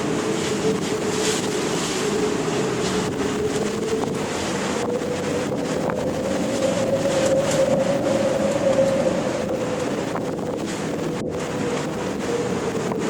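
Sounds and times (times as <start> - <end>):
ocean surf: 0.0 - 13.0
steady hum: 0.0 - 13.0
wind noise: 0.0 - 13.0.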